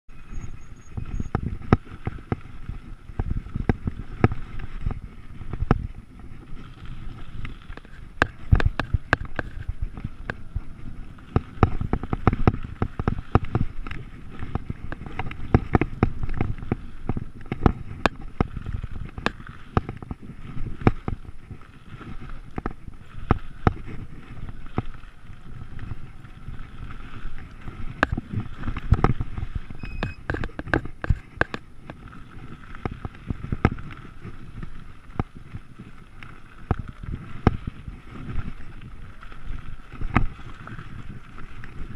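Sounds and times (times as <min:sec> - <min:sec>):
bicycle rattling over bumps: 0:00.1 - 0:41.9
tyres rolling over gravel: 0:00.1 - 0:41.9.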